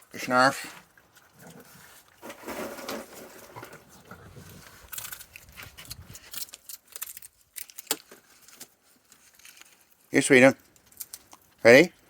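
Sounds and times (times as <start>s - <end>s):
raccoons crunching and chewing: 0.0s - 12.0s.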